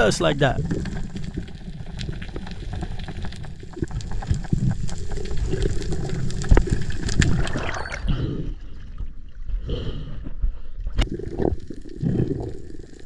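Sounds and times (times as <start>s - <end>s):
muffled underwater water rush: 0.0s - 13.0s
small underwater clicks and crackles: 0.0s - 13.0s.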